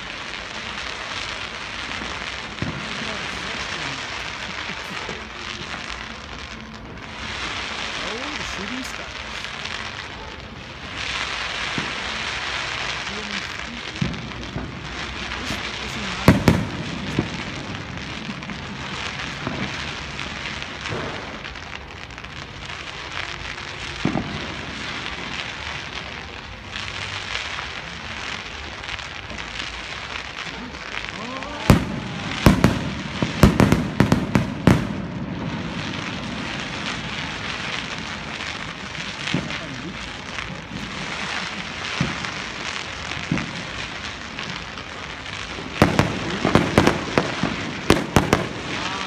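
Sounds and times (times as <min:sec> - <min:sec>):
fireworks bangs: 0:00.0 - 0:49.0.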